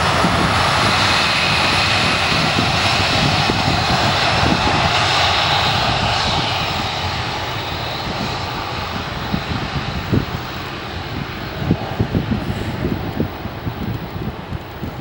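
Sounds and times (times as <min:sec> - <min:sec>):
jet airliner engines roaring past: 0:00.0 - 0:15.0
wind buffeting microphone: 0:00.0 - 0:15.0.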